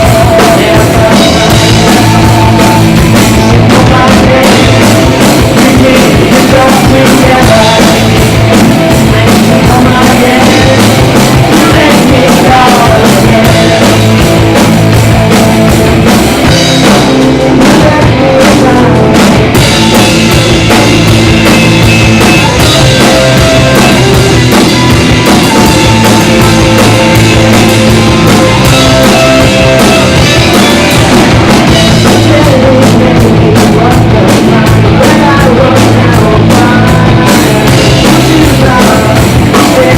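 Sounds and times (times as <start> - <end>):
bass guitar: 0.0 - 39.9
distorted electric guitars: 0.0 - 39.9
drum kit pounding: 0.0 - 39.9.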